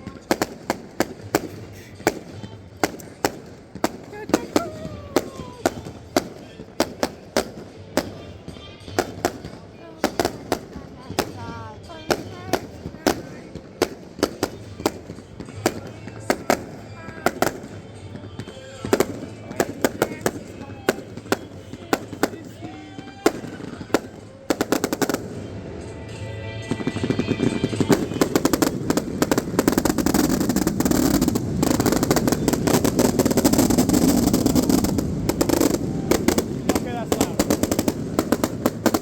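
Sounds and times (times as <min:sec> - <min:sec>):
fireworks bangs and crackle: 0:00.0 - 0:39.0.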